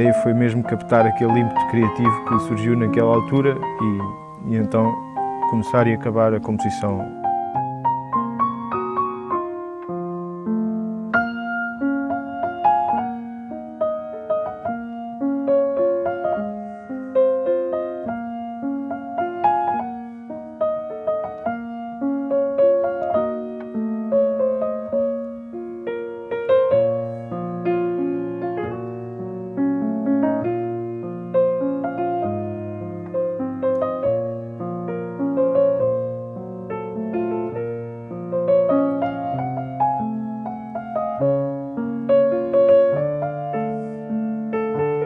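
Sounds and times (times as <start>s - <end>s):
solo piano waltz: 0.0s - 45.0s.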